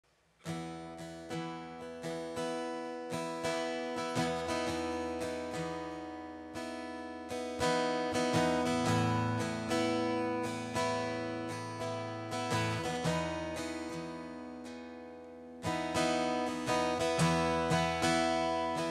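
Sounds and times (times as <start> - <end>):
acoustic guitar strumming chords: 0.4 - 18.9.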